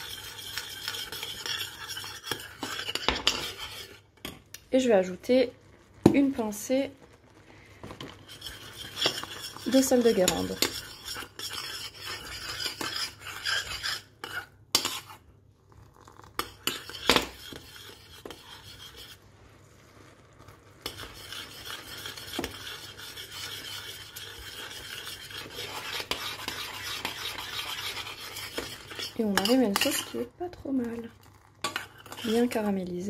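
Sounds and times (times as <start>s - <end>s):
metal spoon scraping saucepan: 0.0s - 4.4s, 7.8s - 15.2s, 15.9s - 19.2s, 20.8s - 32.9s
sauce bubbling and sizzling: 0.0s - 32.7s.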